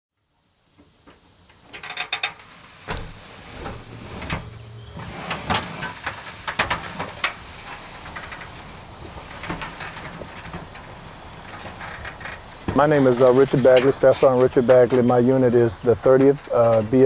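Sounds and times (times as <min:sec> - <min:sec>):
casket sliding with clicks and rattles: 0:01.6 - 0:17.0.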